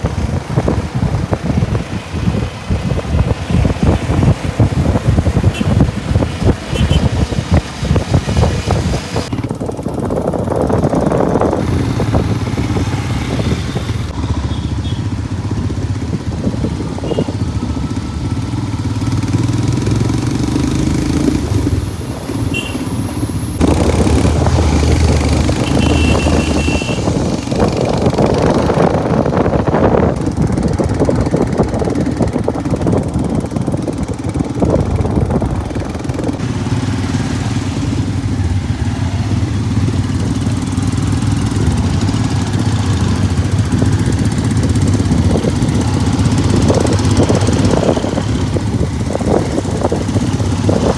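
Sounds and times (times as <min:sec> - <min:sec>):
motorcycle engine revving: 0:00.0 - 0:50.9
wind rushing over microphone: 0:00.0 - 0:50.9.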